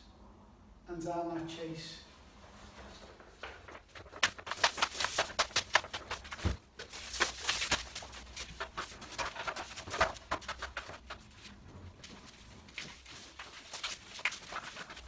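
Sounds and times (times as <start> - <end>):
cable clicking and rustling: 2.8 - 15.0.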